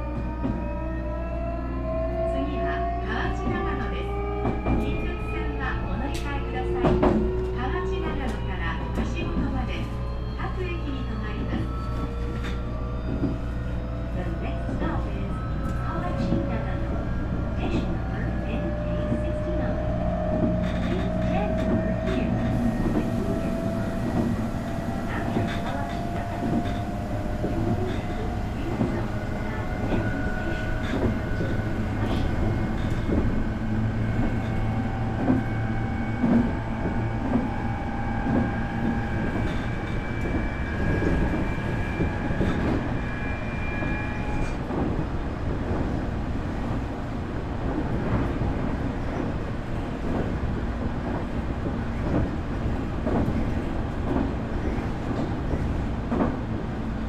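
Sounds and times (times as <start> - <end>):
wheels rumbling on track: 2.8 - 57.0
rail joint clicks: 3.4 - 10.0, 11.2 - 43.5, 44.2 - 57.0.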